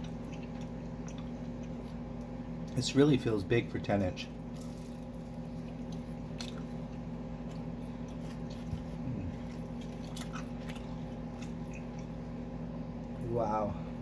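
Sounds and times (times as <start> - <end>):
person chewing food: 0.0 - 2.8, 4.4 - 13.2
steady low hum: 0.0 - 14.0.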